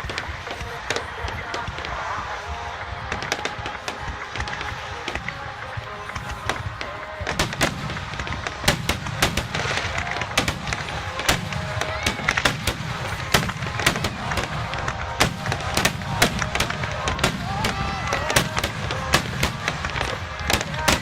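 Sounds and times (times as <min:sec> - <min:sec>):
fireworks bursting with sharp bangs: 0:00.0 - 0:21.0.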